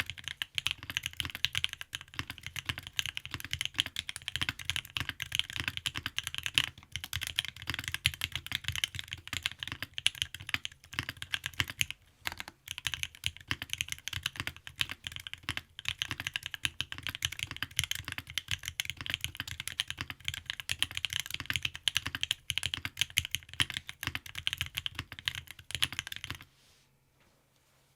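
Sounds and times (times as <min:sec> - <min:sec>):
fast typing on mechanical keyboard: 0:00.0 - 0:26.4.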